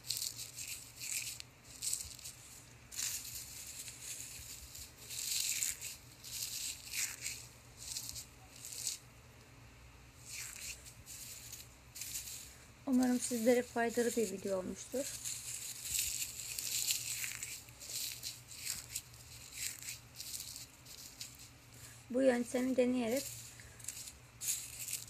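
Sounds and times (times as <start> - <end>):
dried leaves rustling and crackling: 0.0 - 9.1, 10.2 - 25.0.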